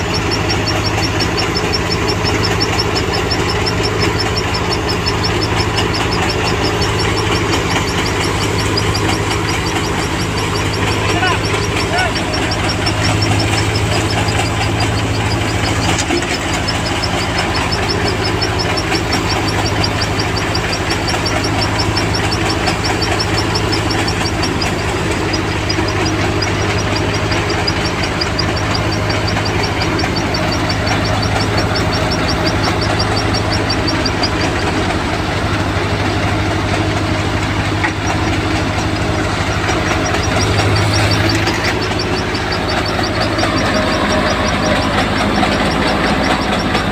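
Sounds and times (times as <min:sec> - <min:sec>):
harvesting machine engine running: 0:00.0 - 0:46.9
rapid high chirping: 0:00.0 - 0:46.9.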